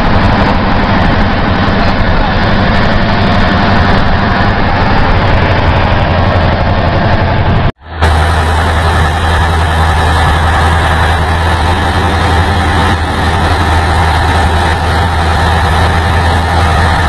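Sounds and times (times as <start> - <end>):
road and wind noise: 0.0 - 17.0
truck diesel engine humming: 0.0 - 17.0.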